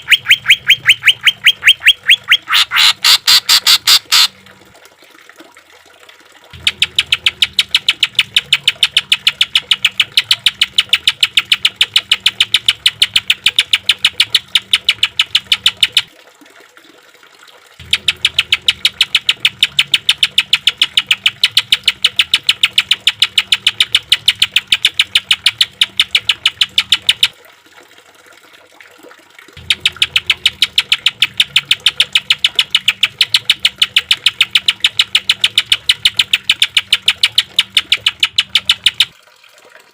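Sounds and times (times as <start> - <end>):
bird rapid-fire song: 0.0 - 4.3, 6.6 - 16.1, 17.8 - 27.3, 29.6 - 39.1.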